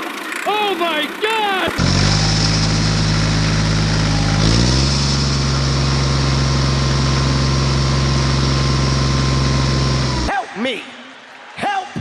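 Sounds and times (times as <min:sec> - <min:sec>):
engine running: 0:00.0 - 0:10.3.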